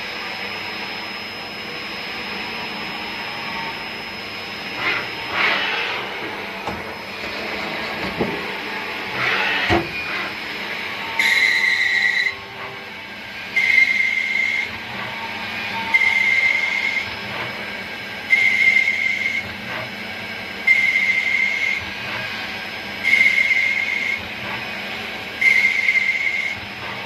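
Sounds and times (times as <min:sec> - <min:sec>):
cnc cutting whine with hiss: 0:00.0 - 0:27.0
machine running hum: 0:00.0 - 0:27.0.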